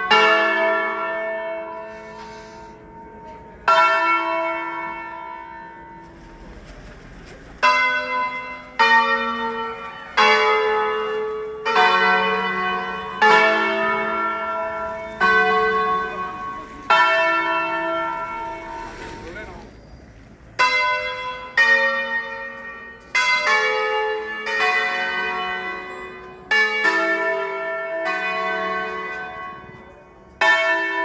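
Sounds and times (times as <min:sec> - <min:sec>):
church bells ringing: 0:00.0 - 0:31.0.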